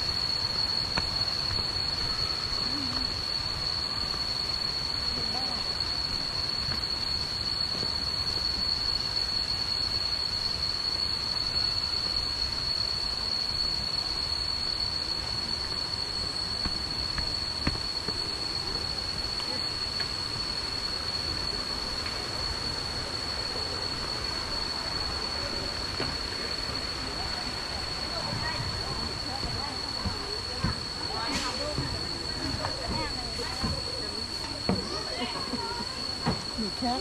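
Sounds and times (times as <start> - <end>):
high-pitched whine: 0.0 - 37.0.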